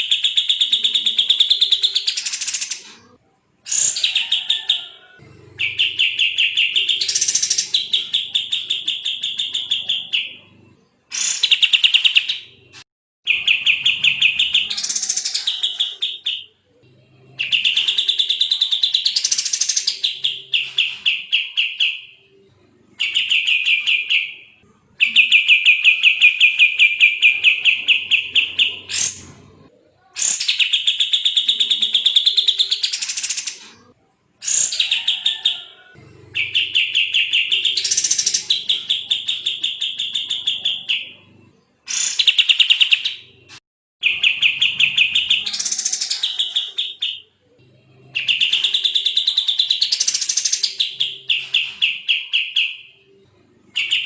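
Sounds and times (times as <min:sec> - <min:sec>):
bulbul chattering song: 0:00.0 - 0:03.0, 0:03.7 - 0:29.4, 0:30.0 - 0:54.0.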